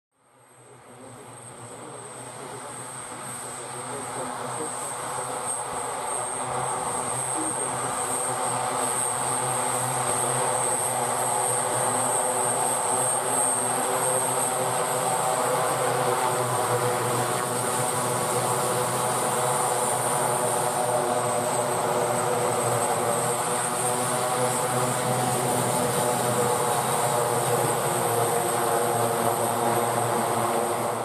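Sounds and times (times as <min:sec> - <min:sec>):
propeller hum: 0:02.1 - 0:31.0.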